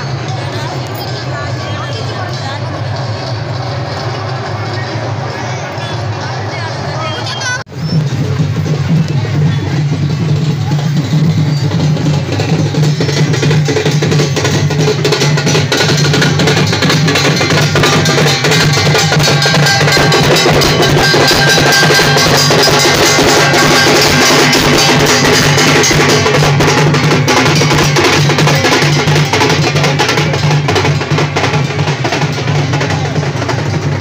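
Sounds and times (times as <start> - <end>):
fast loud drumming: 0.0 - 34.0.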